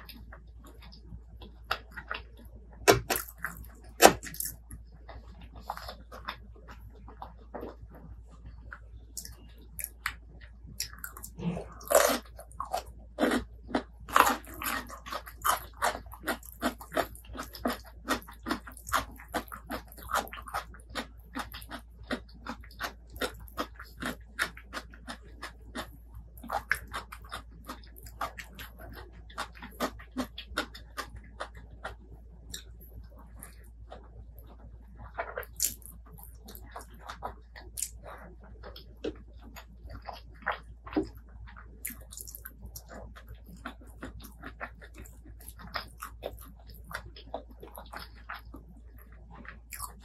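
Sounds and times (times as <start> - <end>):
person chewing crunchy food: 0.0 - 50.0.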